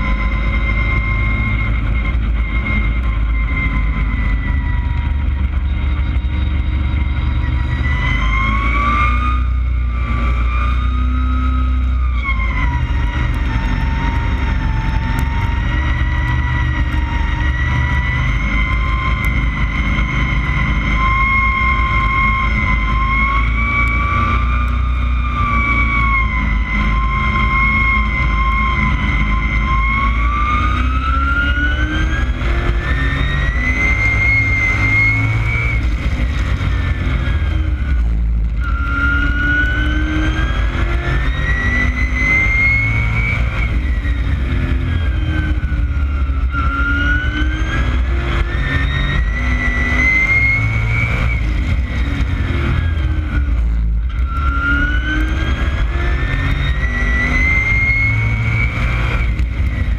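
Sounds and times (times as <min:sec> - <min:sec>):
race car engine rumble and whine: 0:00.0 - 0:59.9.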